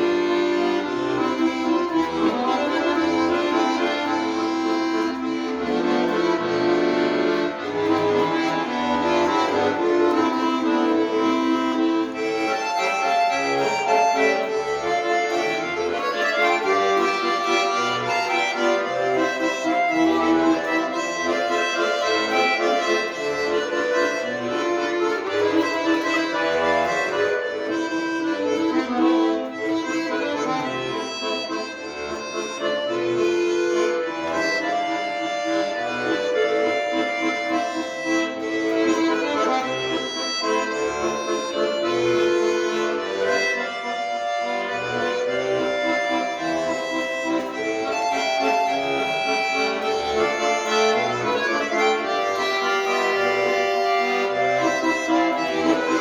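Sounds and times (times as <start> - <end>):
accordion playing: 0.0 - 56.0.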